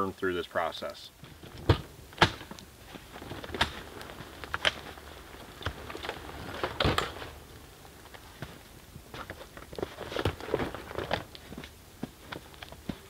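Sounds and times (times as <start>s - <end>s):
camping gear knocks and rustles: 1.2s - 13.0s.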